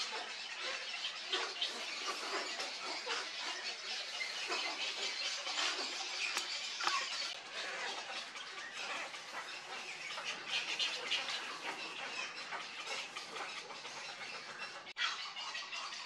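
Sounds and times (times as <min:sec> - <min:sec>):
egret colony calling: 0:00.0 - 0:16.0.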